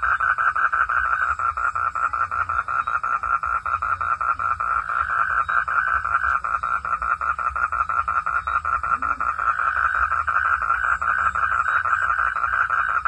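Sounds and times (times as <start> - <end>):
frogs calling in pulsing chorus: 0.0 - 13.0.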